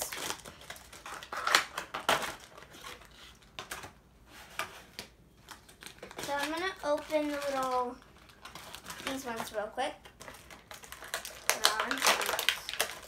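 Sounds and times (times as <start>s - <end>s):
packaging being torn and crinkled: 0.0s - 3.9s, 4.9s - 13.0s.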